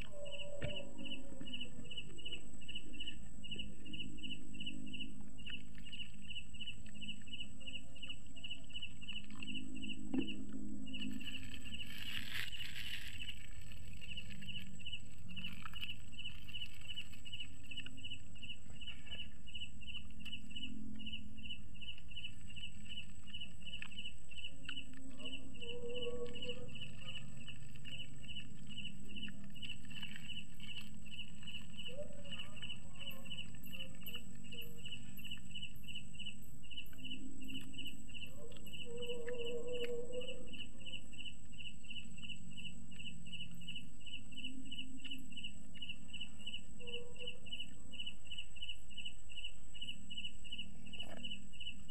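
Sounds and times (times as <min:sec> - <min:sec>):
crickets chirping: 0:00.0 - 0:51.9.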